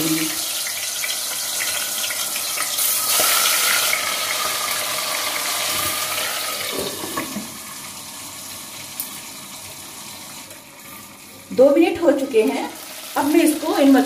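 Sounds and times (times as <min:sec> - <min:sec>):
fish frying in oil: 0:00.0 - 0:14.0.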